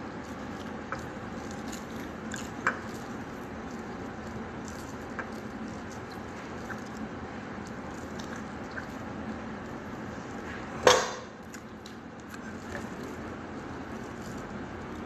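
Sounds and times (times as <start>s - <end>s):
rice squished with fingers: 0.0s - 15.0s
wet chewing: 0.0s - 15.0s.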